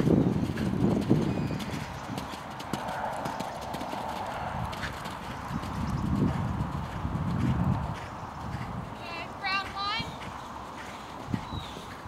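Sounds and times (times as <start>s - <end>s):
horse hoofbeats on sand: 0.0s - 12.0s.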